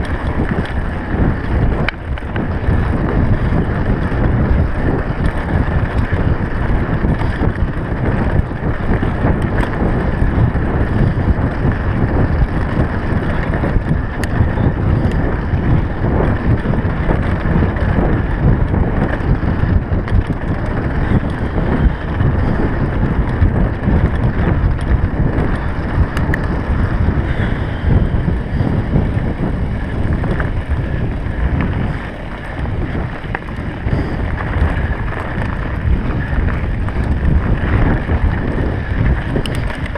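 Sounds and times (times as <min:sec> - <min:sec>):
bike rattling over gravel: 0:00.0 - 0:39.9
wind buffeting microphone: 0:00.0 - 0:39.9.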